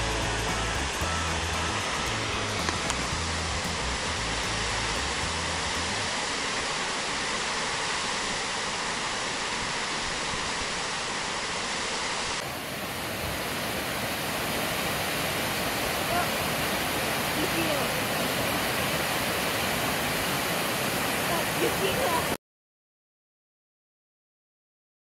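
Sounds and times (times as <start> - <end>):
waterfall rushing: 0.0 - 22.4.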